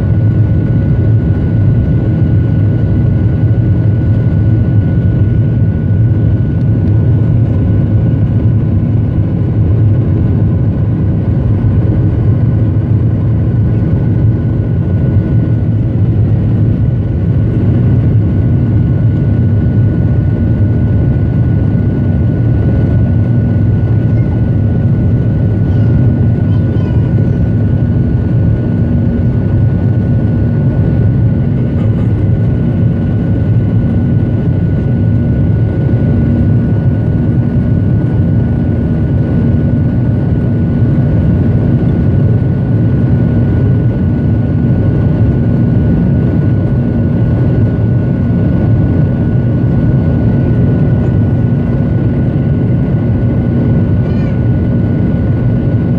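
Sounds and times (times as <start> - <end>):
jet engine and airflow drone: 0.0 - 55.9.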